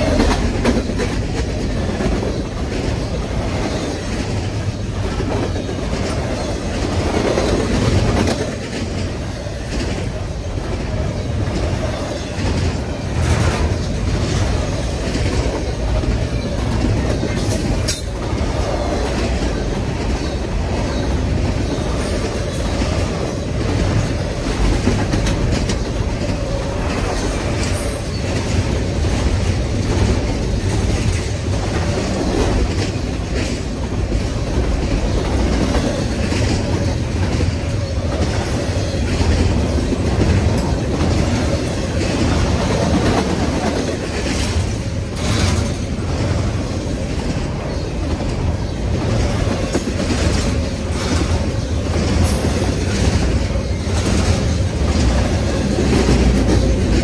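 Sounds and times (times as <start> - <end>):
sharp clicks of train wheels: 0.0 - 57.0
train wheels rumbling on rails: 0.0 - 57.0.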